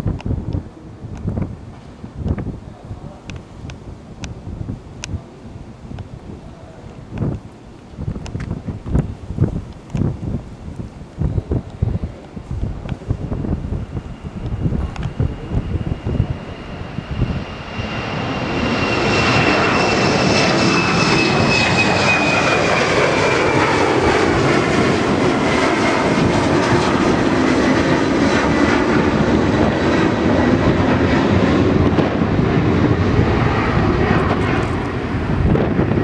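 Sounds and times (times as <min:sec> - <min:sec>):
high jet engine whine: 0:00.0 - 0:36.0
jet engines roaring at takeoff: 0:00.0 - 0:36.0.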